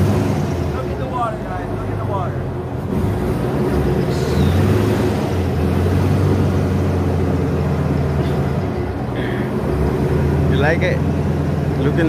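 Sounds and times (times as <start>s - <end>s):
airboat engine droning: 0.0s - 12.0s.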